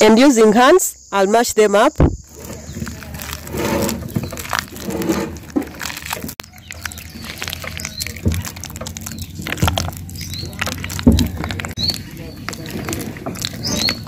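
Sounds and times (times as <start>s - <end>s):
hands squishing ripe bananas: 2.2s - 14.0s.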